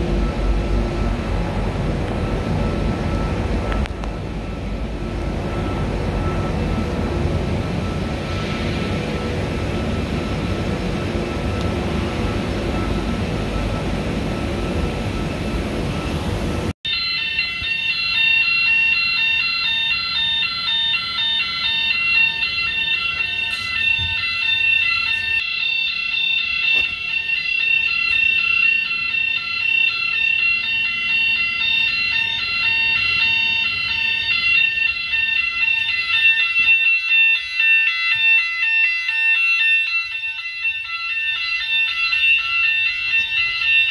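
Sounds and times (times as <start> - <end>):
machinery and ventilation noise: 0.0 - 43.9
pulsing electronic alarm: 0.0 - 43.9.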